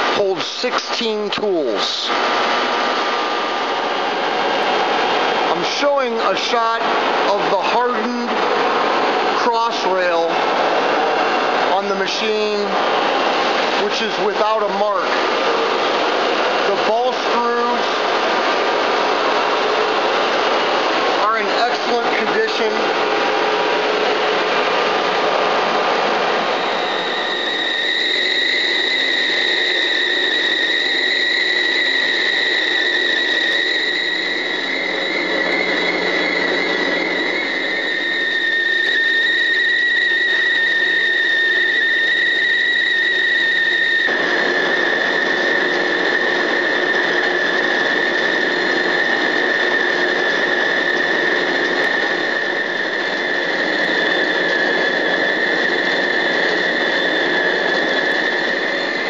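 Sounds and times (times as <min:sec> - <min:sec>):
high-pitched machine whine: 0:00.0 - 0:59.0
mechanical hum: 0:00.0 - 0:59.0.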